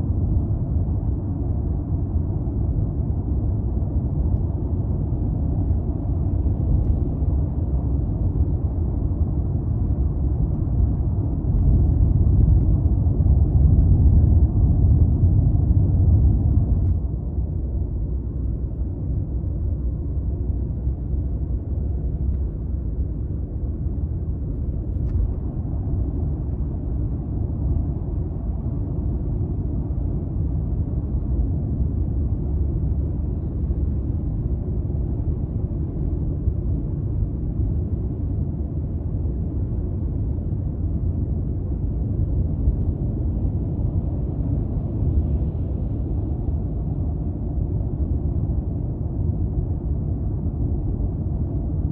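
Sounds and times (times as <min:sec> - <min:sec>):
road and engine rumble in car: 0:00.0 - 0:51.9.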